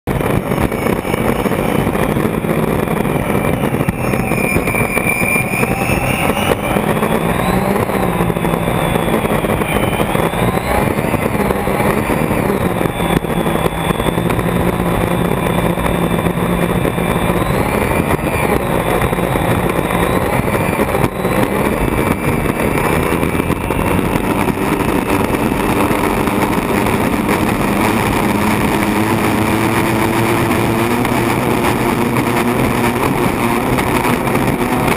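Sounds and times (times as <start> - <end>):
turbine engine whine: 0.0 - 34.9
wind rush: 0.0 - 34.9.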